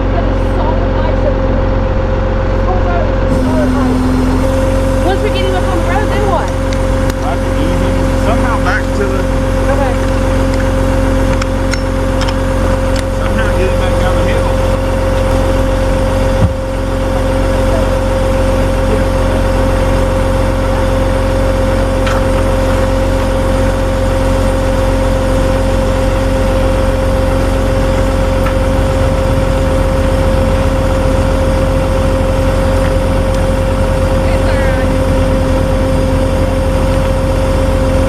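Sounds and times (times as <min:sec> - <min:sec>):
truck engine running with whine: 0:00.0 - 0:38.0.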